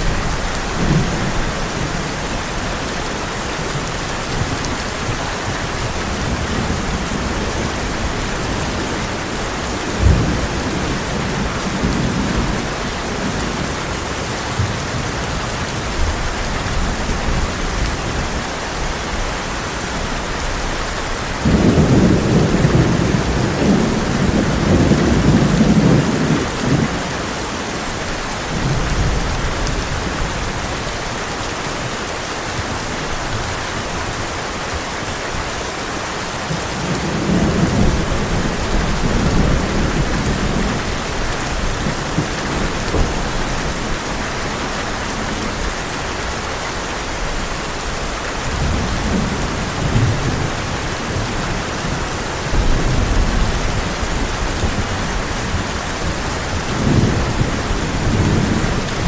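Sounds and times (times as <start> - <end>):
thunder rumbling: 0.0 - 19.0, 20.4 - 31.3, 31.9 - 59.0
heavy rain on a tin roof: 0.0 - 59.0.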